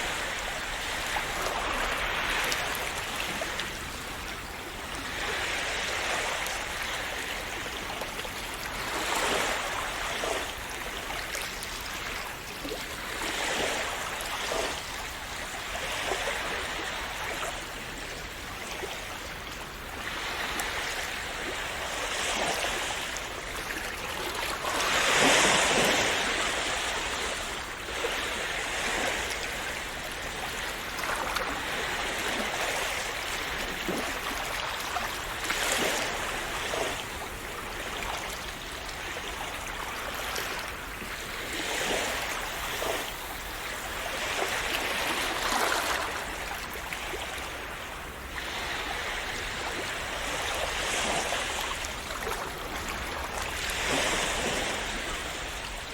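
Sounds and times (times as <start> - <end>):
sea waves washing onto shore: 0.0 - 55.9.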